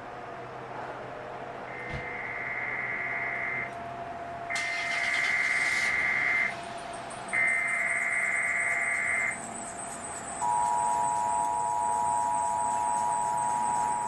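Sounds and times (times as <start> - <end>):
buzzing electronic data tone: 1.7 - 3.7, 4.5 - 14.0.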